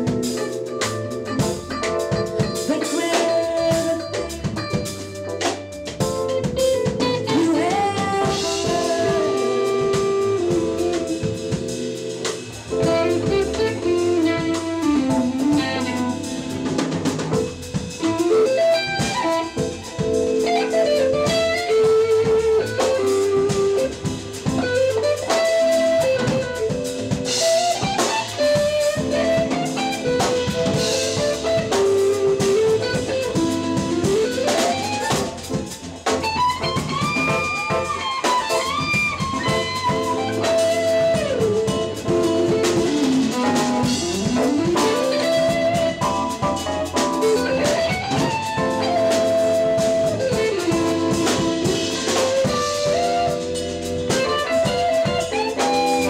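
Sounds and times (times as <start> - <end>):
electric guitar lead: 0.0 - 56.0
jazz band playing: 0.0 - 56.0.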